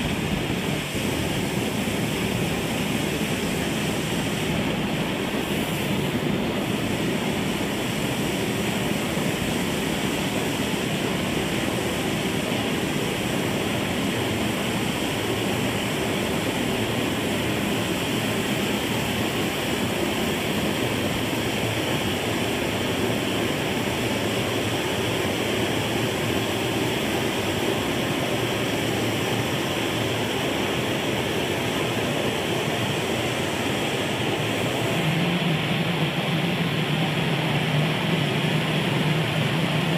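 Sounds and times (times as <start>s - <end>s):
blowtorch flame rushing: 0.0s - 39.9s.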